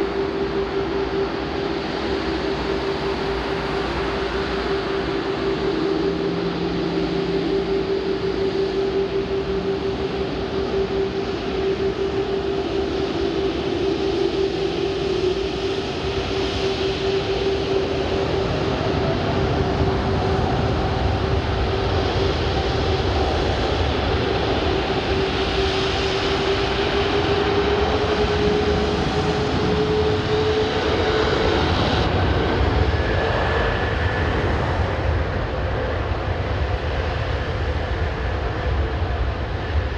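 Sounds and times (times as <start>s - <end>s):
higher jet engine whine: 0.0s - 39.9s
jet engines whining and rumbling: 0.0s - 39.9s.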